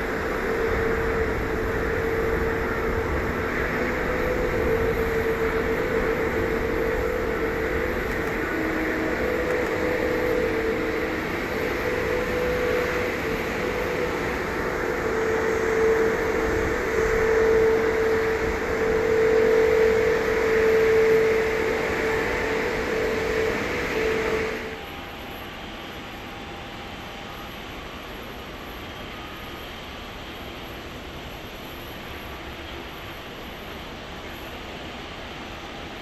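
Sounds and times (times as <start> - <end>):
airliner jet engines landing: 0.0 - 36.0.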